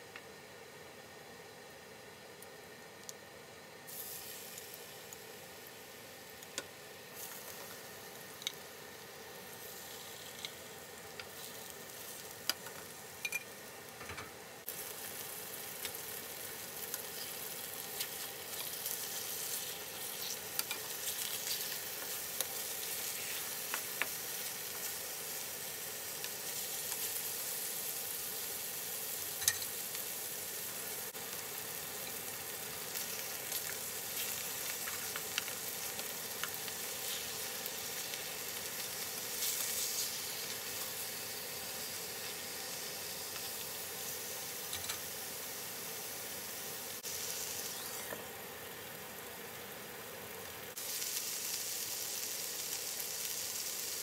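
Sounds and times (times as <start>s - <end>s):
chicken sizzling in oil: 2.0s - 54.0s.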